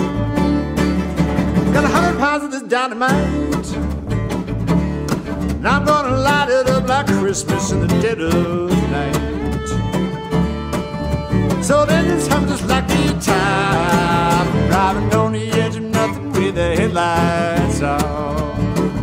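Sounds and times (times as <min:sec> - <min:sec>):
upright double bass: 0:00.0 - 0:02.3, 0:03.1 - 0:19.0
fiddle melody: 0:00.0 - 0:19.0
strummed acoustic guitar: 0:00.0 - 0:19.0.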